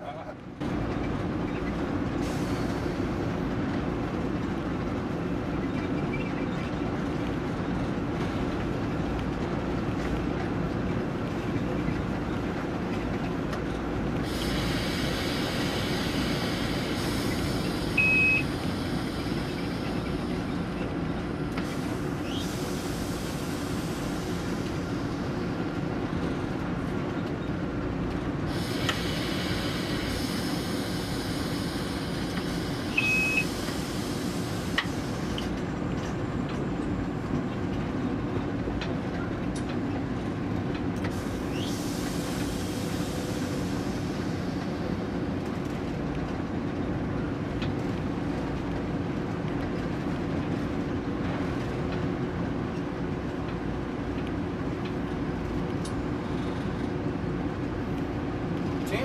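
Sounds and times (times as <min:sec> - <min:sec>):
diesel locomotive running: 0:00.0 - 0:59.0
wheel and rail noise: 0:00.0 - 0:59.0.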